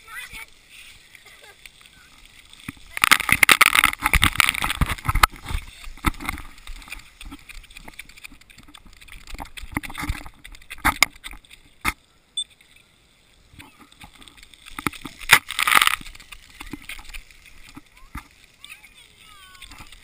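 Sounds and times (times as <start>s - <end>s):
water spray splashing on camera: 0.0s - 20.0s.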